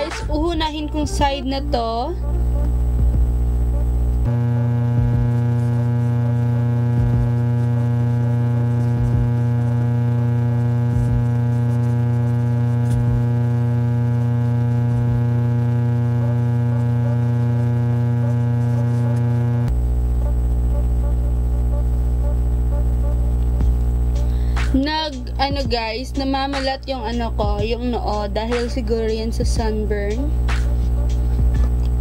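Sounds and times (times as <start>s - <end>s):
soft low pulse: 0.0s - 26.3s, 27.2s - 32.0s
droning synth pad: 0.0s - 32.0s.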